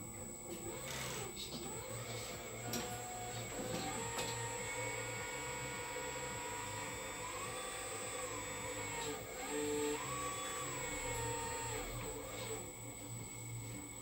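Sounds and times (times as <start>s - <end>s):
hydraulic whine and hum: 0.0s - 14.0s.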